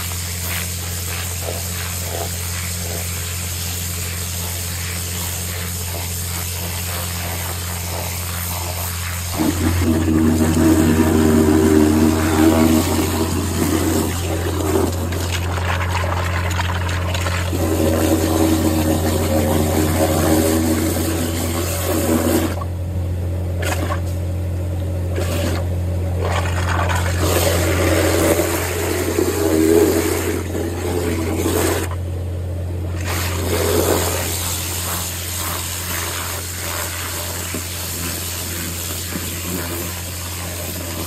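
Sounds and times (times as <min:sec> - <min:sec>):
pressure washer spraying mud: 0:00.0 - 0:22.8, 0:25.1 - 0:32.1, 0:32.9 - 0:41.0
low even hum: 0:00.0 - 0:41.0.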